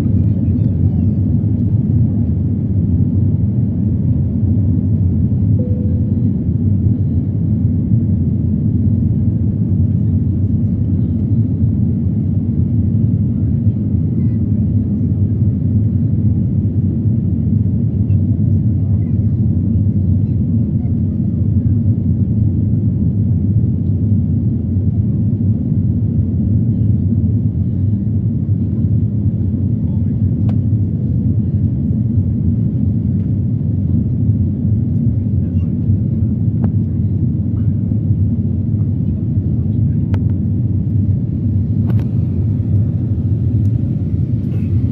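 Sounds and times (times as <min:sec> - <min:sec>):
jet engine and airflow rumble: 0:00.0 - 0:44.9.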